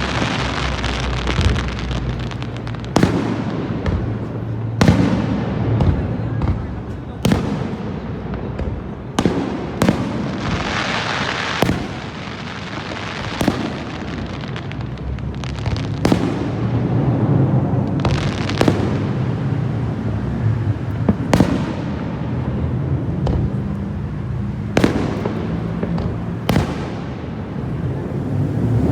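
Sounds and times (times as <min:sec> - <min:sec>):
fireworks bangs: 0:00.0 - 0:28.9.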